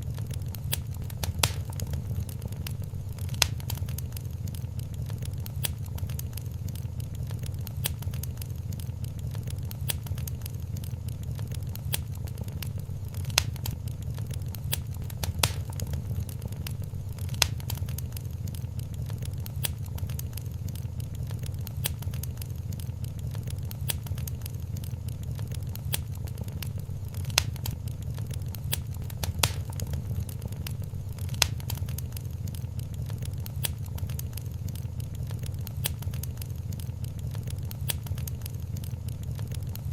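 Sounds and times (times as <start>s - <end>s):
fire popping: 0.0s - 39.9s
low fire rumble: 0.0s - 39.9s
wood fire crackling: 0.0s - 39.9s.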